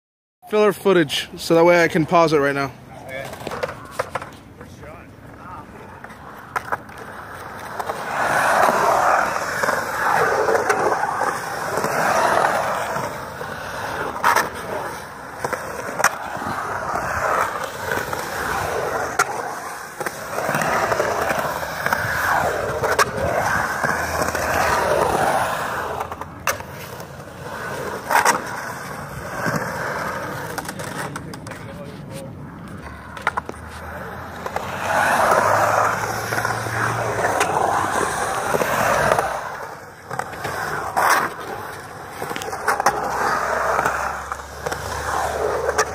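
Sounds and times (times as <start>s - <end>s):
skateboard wheels rolling on concrete: 0.4s - 45.9s.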